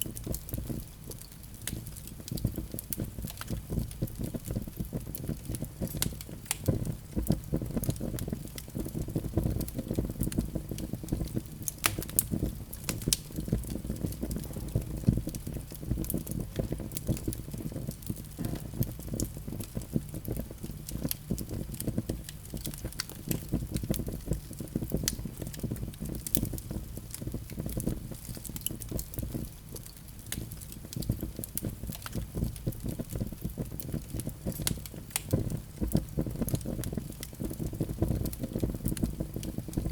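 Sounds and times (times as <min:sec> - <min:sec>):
fire rumbling: 0:00.0 - 0:39.9
logs crackling and popping: 0:00.0 - 0:39.9.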